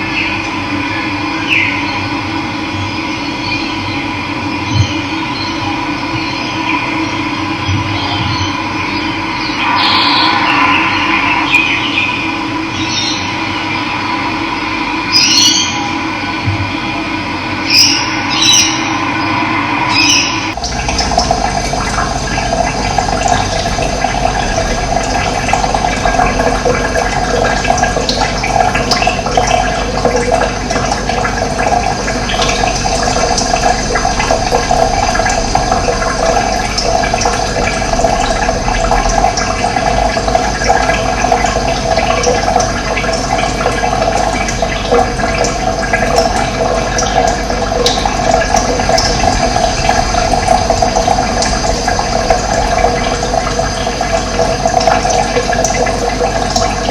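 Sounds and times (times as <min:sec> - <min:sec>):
running water rushing: 0:06.6 - 0:56.9.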